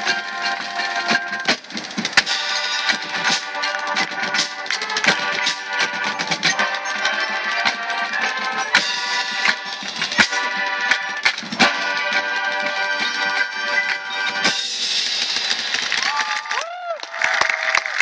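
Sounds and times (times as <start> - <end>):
sharp percussion hits: 0.0 - 16.2.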